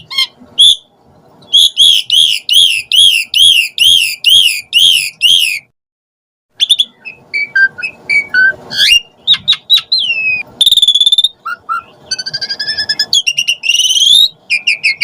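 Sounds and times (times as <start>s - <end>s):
myna bird calling: 0.0s - 5.7s, 6.6s - 15.0s.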